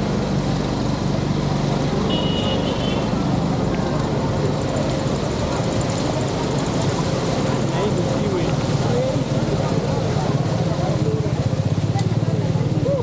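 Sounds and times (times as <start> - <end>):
vehicle engine and traffic: 0.0 - 13.0.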